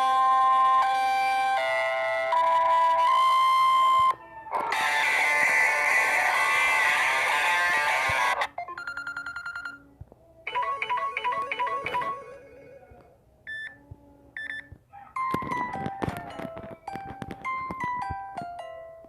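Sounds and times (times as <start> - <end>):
phone ringtone: 0.0 - 9.9, 10.5 - 13.8, 14.4 - 19.0.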